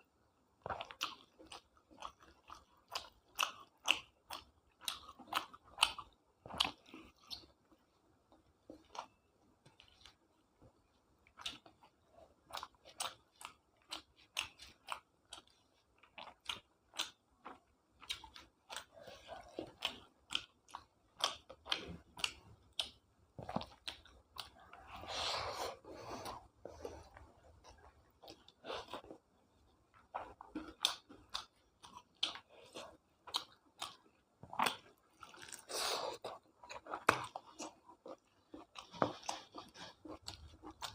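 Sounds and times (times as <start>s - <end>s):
person chewing food: 0.6s - 40.9s.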